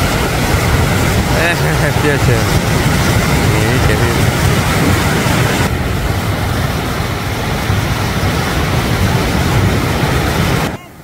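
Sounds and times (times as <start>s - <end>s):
sea surf rushing: 0.0s - 11.0s
wind buffeting microphone: 0.0s - 11.0s.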